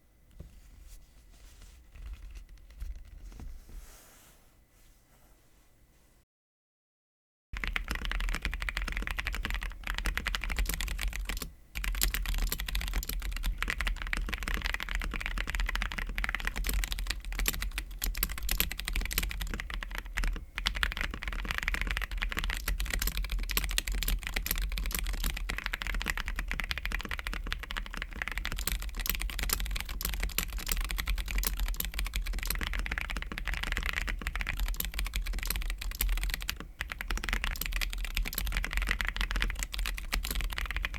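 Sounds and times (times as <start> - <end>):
fast typing on mechanical keyboard: 7.6 - 40.9.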